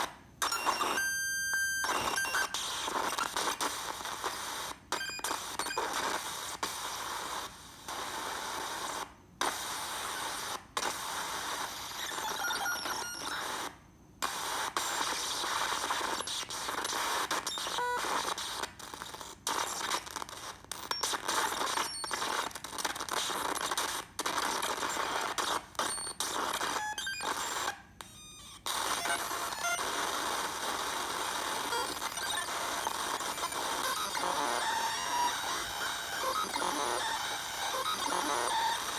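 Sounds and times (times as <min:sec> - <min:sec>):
static noise: 0:00.0 - 0:38.9.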